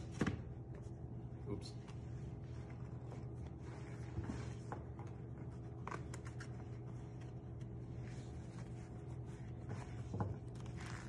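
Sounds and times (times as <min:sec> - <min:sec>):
steady low hum: 0:00.0 - 0:11.0
soft handling noises: 0:00.6 - 0:11.0
bandage rustling and scuffing: 0:01.9 - 0:11.0.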